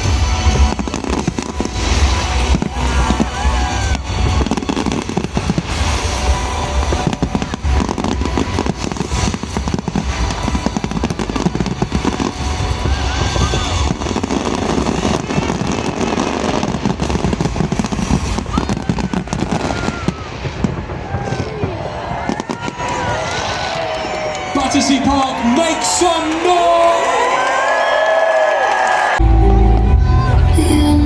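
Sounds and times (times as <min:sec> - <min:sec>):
deep fireworks booms: 0:00.0 - 0:27.9
fireworks bangs and crackling: 0:00.0 - 0:29.2.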